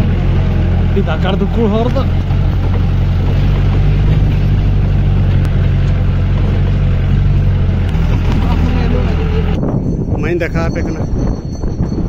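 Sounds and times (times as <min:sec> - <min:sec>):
vehicle engine droning: 0:00.0 - 0:09.8.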